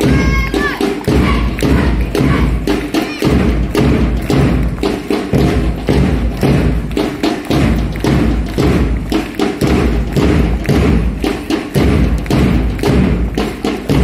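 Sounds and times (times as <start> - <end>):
drum beating marching rhythm: 0.0 - 14.0.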